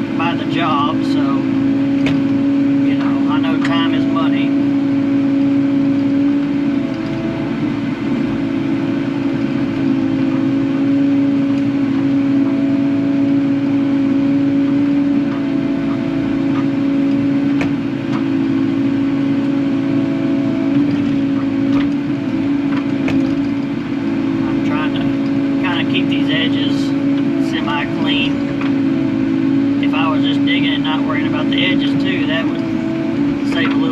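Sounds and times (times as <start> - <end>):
excavator engine and hydraulics: 0.0 - 33.9.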